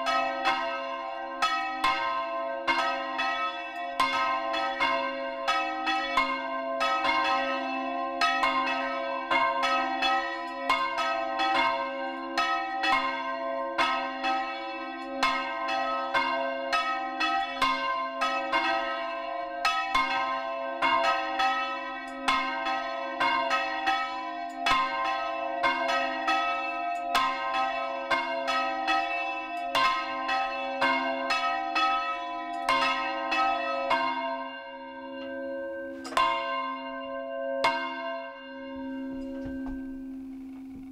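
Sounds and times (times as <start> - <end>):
church bells clanging: 0.0 - 40.9.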